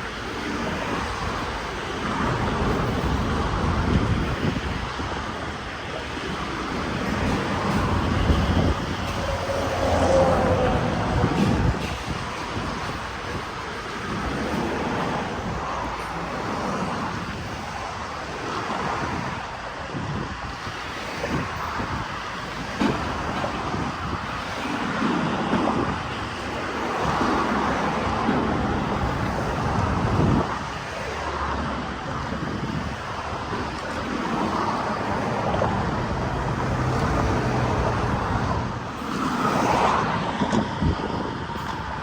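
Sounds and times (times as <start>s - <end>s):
diesel locomotives rumbling: 0.0s - 42.0s
wind on microphone: 0.0s - 42.0s.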